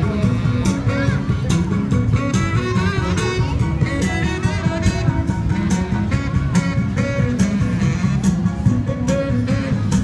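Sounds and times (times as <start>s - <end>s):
loud music with bass beat: 0.0s - 10.0s.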